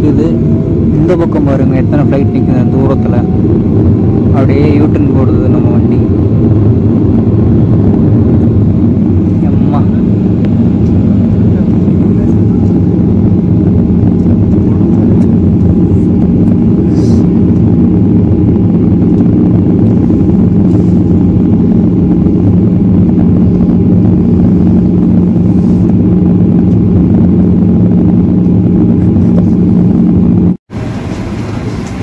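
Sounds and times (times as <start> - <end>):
jet engines humming in cabin: 0.0 - 32.0.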